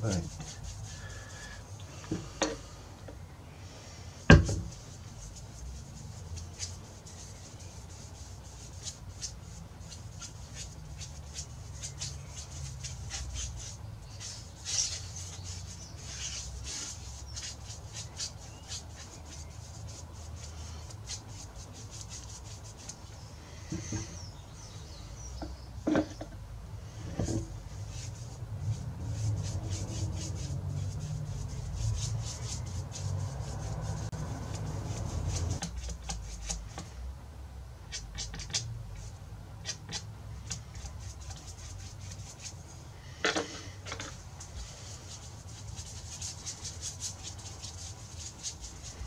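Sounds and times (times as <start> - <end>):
rubbing strokes on wood: 0.0 - 2.7, 3.8 - 24.4, 26.9 - 37.0, 37.9 - 49.0.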